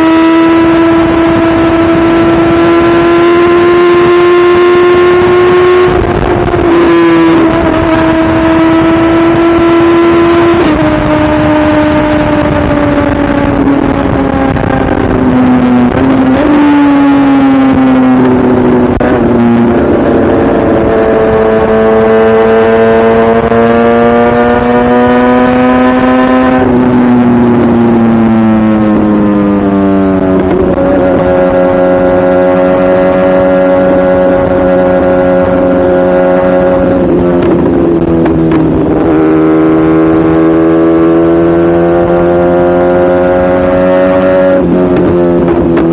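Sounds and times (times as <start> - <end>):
motorcycle engine changing gears: 0.0 - 45.9.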